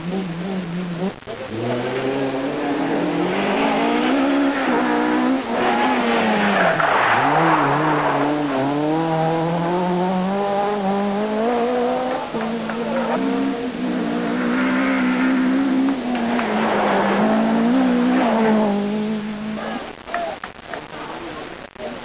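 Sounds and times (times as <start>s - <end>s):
rally car engine revving: 0.0s - 20.0s
tyre noise: 0.0s - 20.4s.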